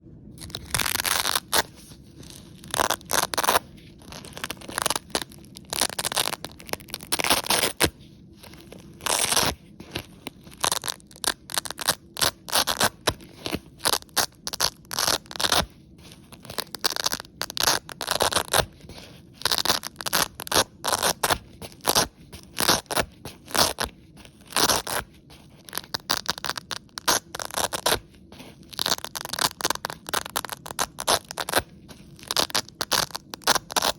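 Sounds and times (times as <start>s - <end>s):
velcro strips ripping apart: 0.4s - 33.9s.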